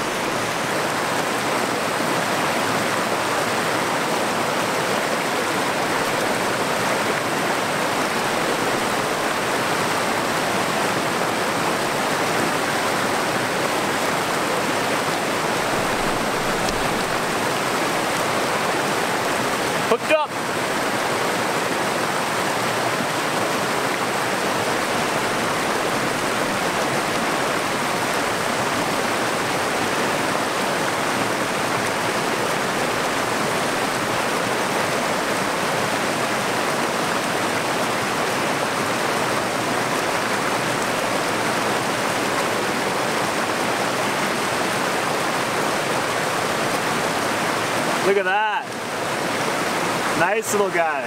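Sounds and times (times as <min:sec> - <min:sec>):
stream rushing over riffles: 0:00.0 - 0:51.0.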